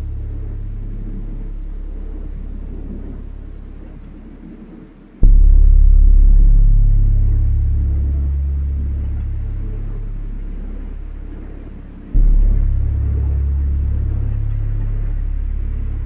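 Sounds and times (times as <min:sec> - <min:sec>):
deep low bass notes: 0:00.0 - 0:04.3, 0:05.2 - 0:16.0.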